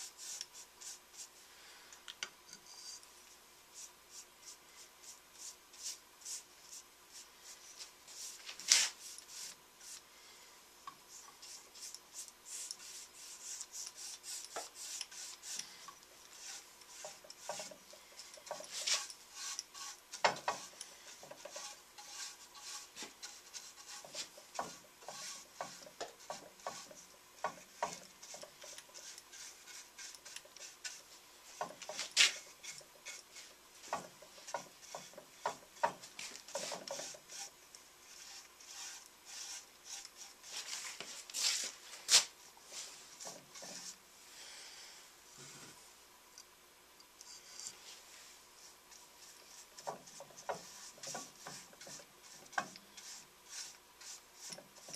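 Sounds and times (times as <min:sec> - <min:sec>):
paintbrush strokes on wood: 0:00.0 - 0:01.6, 0:02.6 - 0:10.3, 0:10.9 - 0:44.3, 0:47.3 - 0:54.9.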